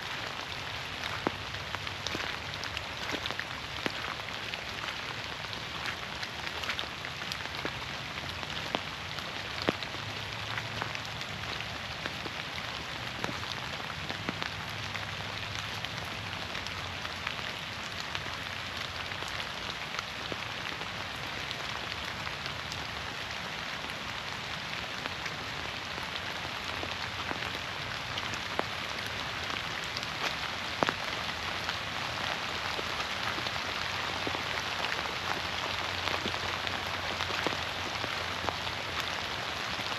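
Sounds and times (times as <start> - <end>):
rain falling through trees: 0.0 - 39.9.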